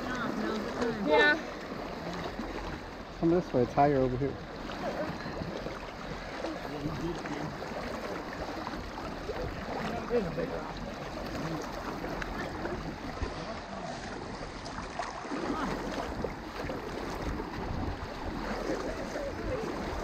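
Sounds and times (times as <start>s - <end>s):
water sloshing around wading legs: 0.0s - 20.0s.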